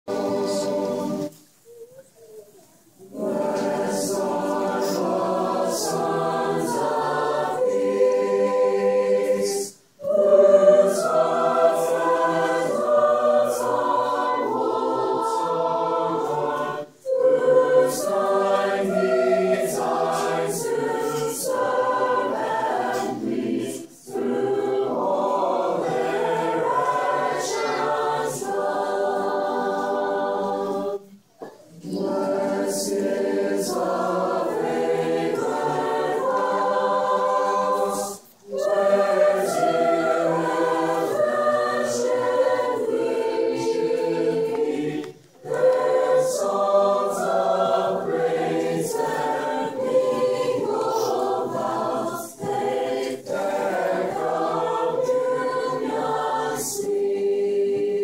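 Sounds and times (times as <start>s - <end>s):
choir singing a cappella: 0.0s - 2.3s, 2.9s - 58.0s.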